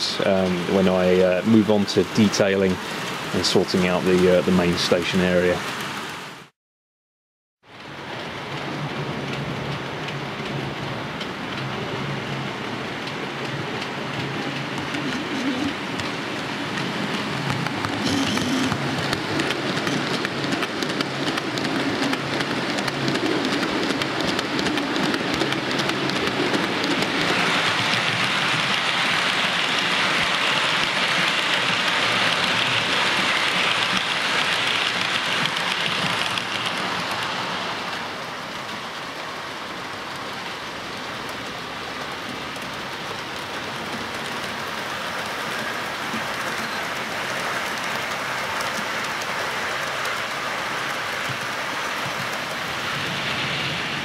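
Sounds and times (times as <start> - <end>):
model train wheels on rail: 7.8 - 54.0.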